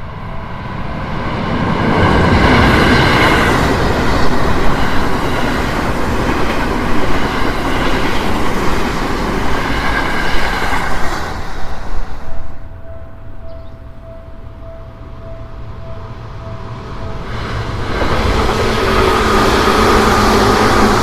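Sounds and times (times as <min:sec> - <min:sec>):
train passing: 0:00.0 - 0:21.0.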